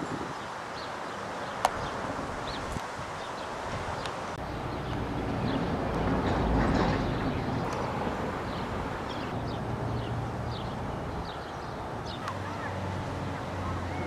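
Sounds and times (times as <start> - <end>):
low street rumble: 0.0 - 14.0
small birds chirping: 0.1 - 6.0, 6.9 - 14.0.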